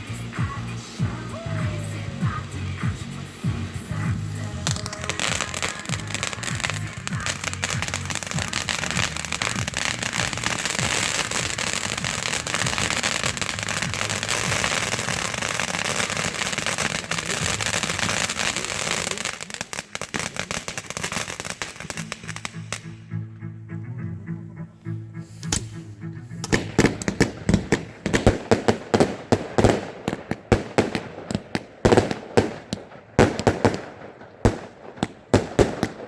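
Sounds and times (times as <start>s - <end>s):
fireworks crackling: 0.0s - 23.1s, 25.3s - 36.0s
background music: 0.0s - 36.0s.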